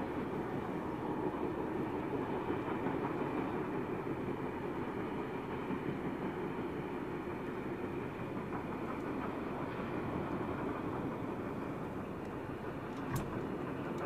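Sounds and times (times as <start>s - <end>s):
steam train rumbling: 0.0s - 14.0s.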